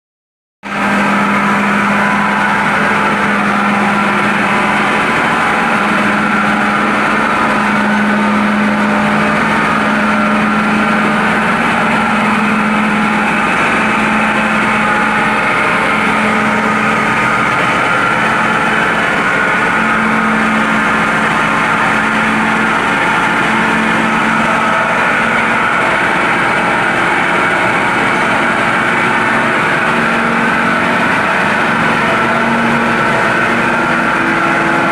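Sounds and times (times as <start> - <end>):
turbine and generator humming: 0.6 - 34.9.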